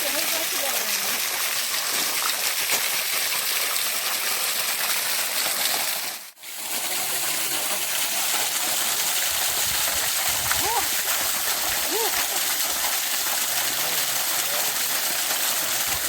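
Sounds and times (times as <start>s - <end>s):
water gushing from tap: 0.0s - 16.0s.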